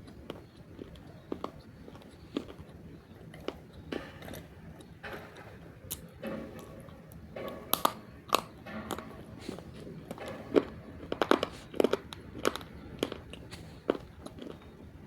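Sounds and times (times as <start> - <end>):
biting and chewing clay: 0.0 - 15.0.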